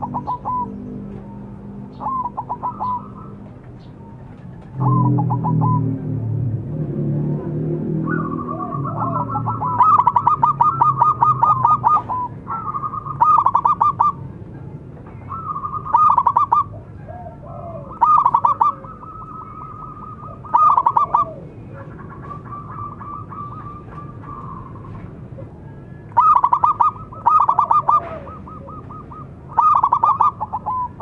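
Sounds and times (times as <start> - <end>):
dove cooing: 0.0 - 6.4, 7.3 - 31.0.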